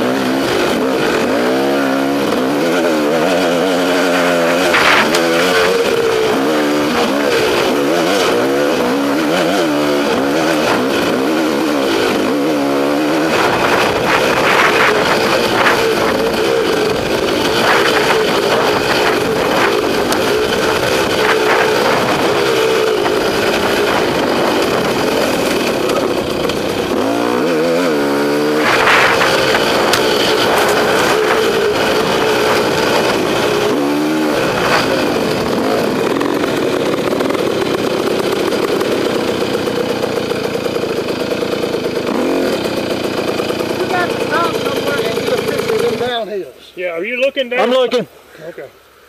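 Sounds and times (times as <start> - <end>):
two-stroke motorcycle engine revving: 0.0 - 46.4.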